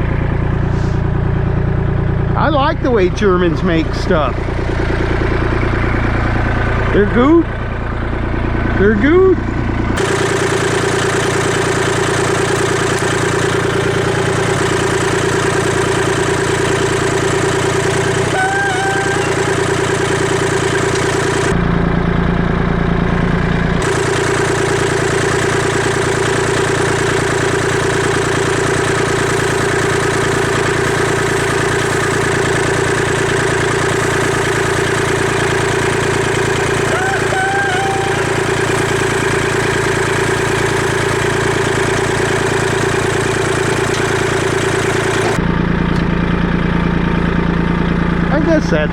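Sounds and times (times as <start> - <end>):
engine idling: 0.0 - 48.9.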